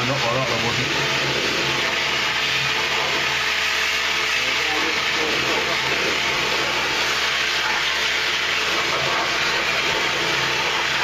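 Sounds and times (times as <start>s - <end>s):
pressure washer water jet hissing: 0.0s - 11.0s.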